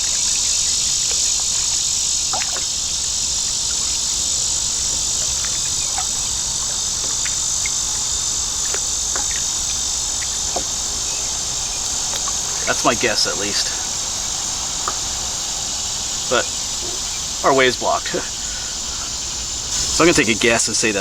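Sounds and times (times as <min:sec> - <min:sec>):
faint chirps: 0:00.0 - 0:21.0
high-pitched insect chorus: 0:00.0 - 0:21.0.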